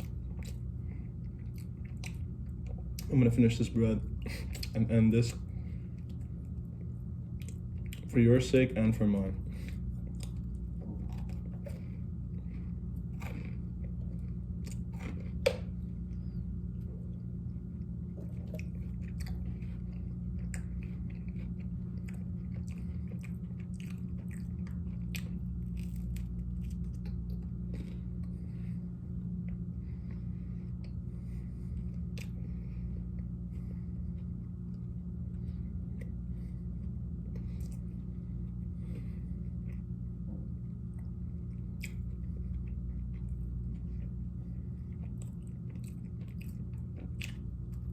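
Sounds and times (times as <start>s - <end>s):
chewing crunchy bread: 0.0s - 47.9s
steady low hum: 0.0s - 47.9s.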